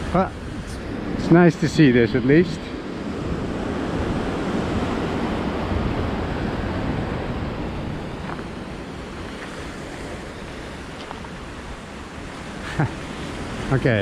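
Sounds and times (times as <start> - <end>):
surf on a rocky shore: 0.0 - 14.0.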